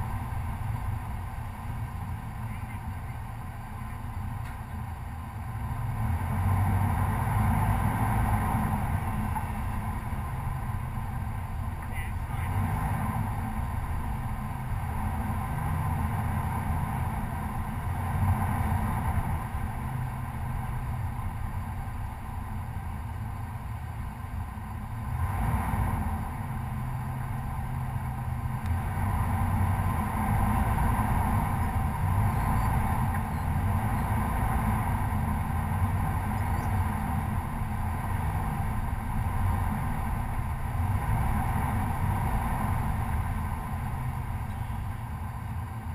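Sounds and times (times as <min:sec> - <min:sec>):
pickup engine low rumble: 0:00.0 - 0:45.9.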